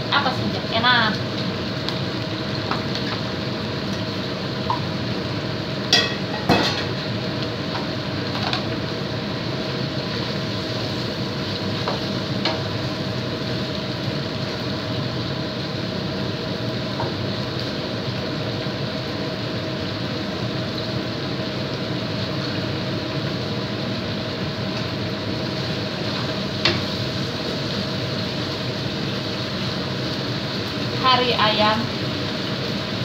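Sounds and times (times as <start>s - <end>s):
curry sizzling in a wok: 0.0s - 33.0s.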